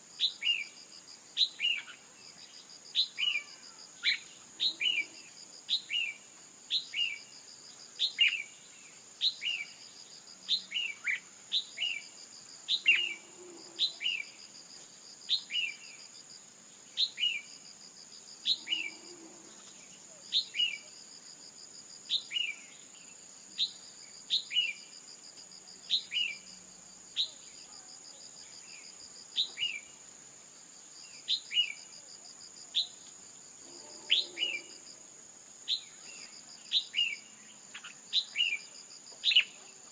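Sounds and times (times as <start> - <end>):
high insect buzz: 0.0 - 39.9.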